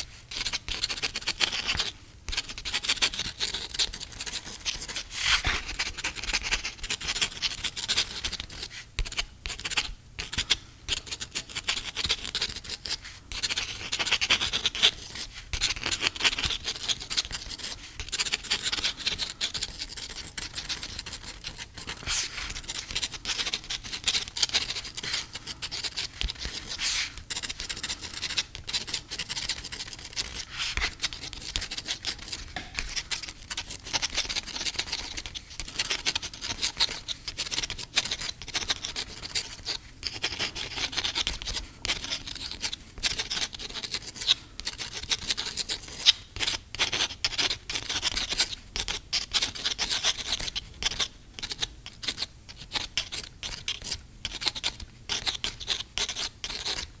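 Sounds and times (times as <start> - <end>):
pen scratching on paper: 0.0 - 56.9.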